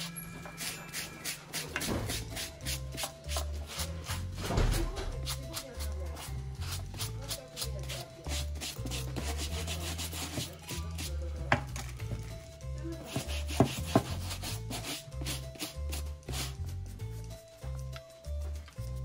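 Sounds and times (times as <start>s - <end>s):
brush scrubbing suede: 0.0s - 11.2s, 13.0s - 17.6s
background music with bass line: 1.9s - 19.0s.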